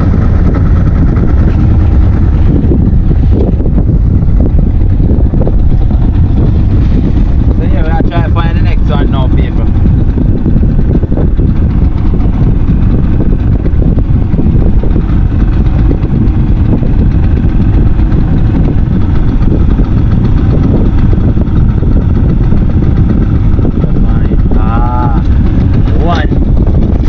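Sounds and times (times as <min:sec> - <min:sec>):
boat engine running: 0:00.0 - 0:27.0
wind rumble on microphone: 0:00.0 - 0:27.0.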